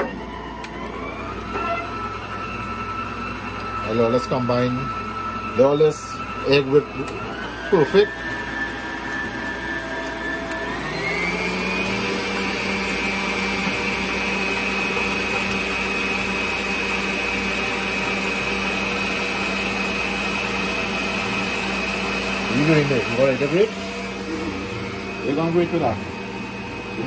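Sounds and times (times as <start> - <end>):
stand mixer whisking eggs: 0.0 - 27.0.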